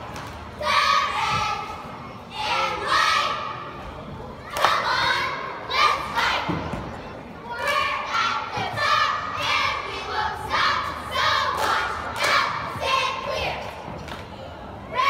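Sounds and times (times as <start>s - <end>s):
cheerleaders chanting a cheer: 0.0s - 15.0s.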